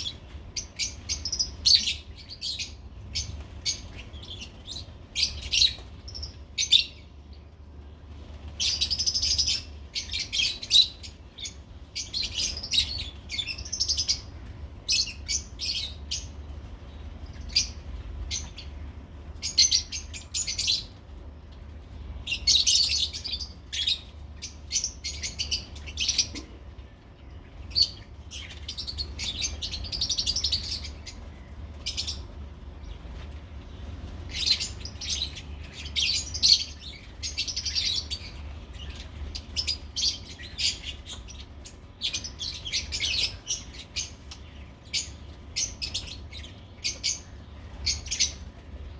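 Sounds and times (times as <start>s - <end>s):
lovebirds chirping: 0.0s - 7.2s, 8.3s - 21.0s, 27.3s - 48.9s
steady low hum: 0.0s - 48.9s.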